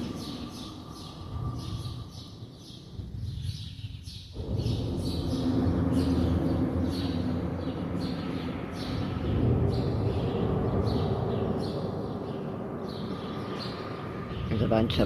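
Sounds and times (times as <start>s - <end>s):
low rumble: 0.0s - 15.0s
swallows chirping: 0.0s - 15.0s.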